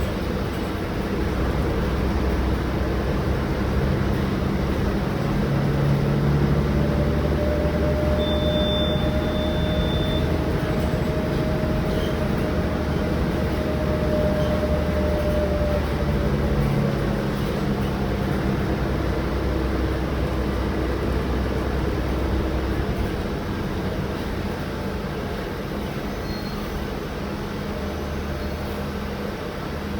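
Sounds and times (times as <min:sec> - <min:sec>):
bus diesel engine running: 0:00.0 - 0:29.9.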